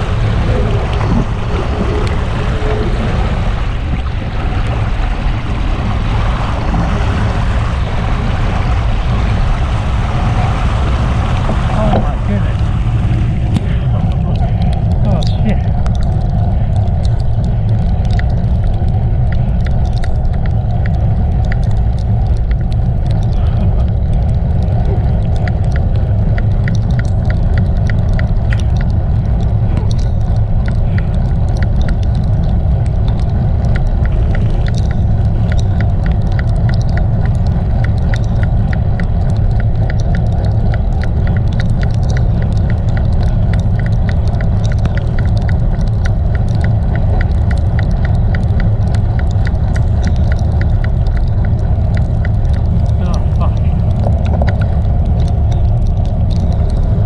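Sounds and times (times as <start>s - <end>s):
light regular ticking: 0.0s - 57.0s
tyre noise on wet road: 0.0s - 57.0s
wind rumbling on microphone: 0.0s - 57.0s.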